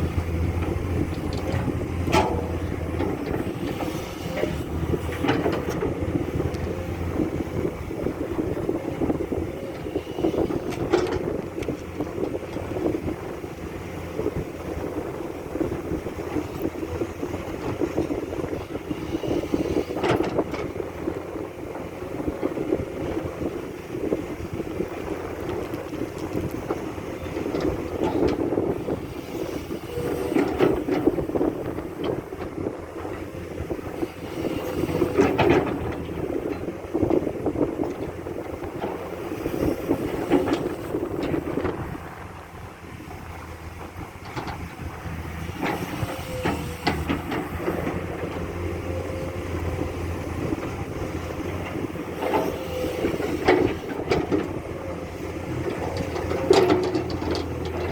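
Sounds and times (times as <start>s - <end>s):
excavator diesel engine under load: 0.0s - 57.9s.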